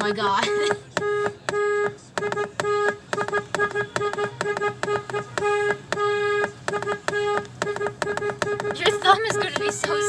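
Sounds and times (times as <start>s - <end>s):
car horn honking: 0.0s - 10.0s.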